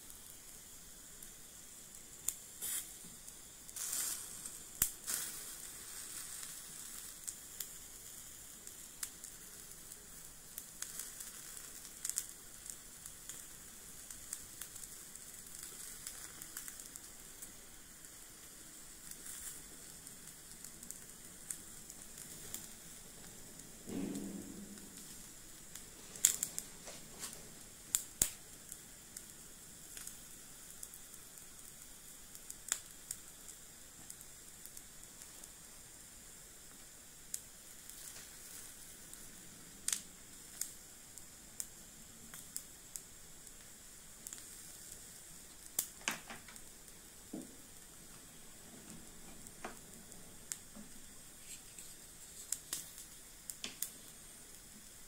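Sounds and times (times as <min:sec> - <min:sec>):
meat sizzling on charcoal grill: 0:00.0 - 0:55.0
sharp pops and crackles: 0:00.0 - 0:55.0.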